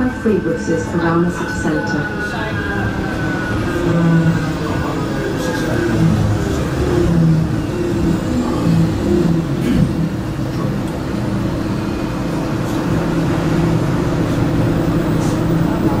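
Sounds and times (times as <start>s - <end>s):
tram motor hum: 0.0s - 16.0s
wheels rumbling on rails: 0.0s - 16.0s.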